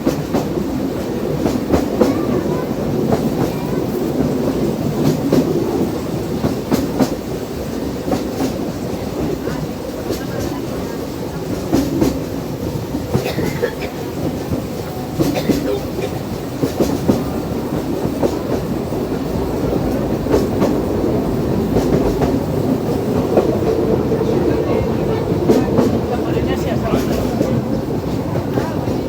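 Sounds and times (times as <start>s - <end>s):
train rumbling on rails: 0.0s - 29.0s
wheels clicking over track: 0.0s - 29.0s.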